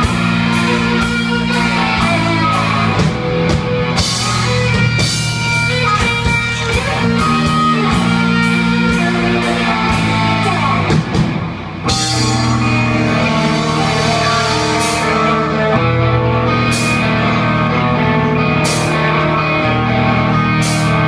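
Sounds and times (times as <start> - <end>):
heavy metal band playing: 0.0 - 21.0.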